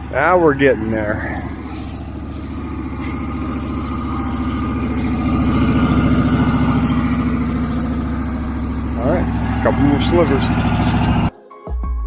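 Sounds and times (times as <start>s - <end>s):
sawmill engine running: 0.0s - 11.3s.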